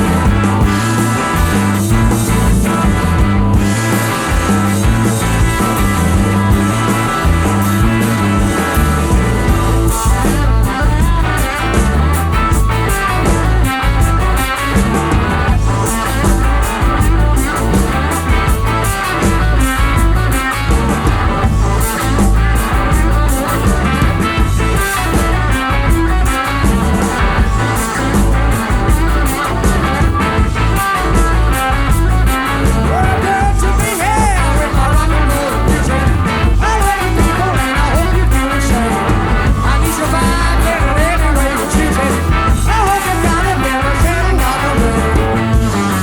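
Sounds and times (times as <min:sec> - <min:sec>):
rock music with guitar: 0:00.0 - 0:46.0.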